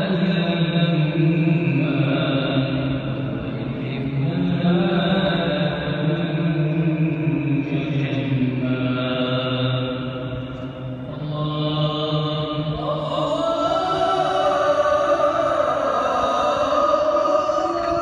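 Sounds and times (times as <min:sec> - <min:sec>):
man chanting prayer: 0:00.0 - 0:18.0.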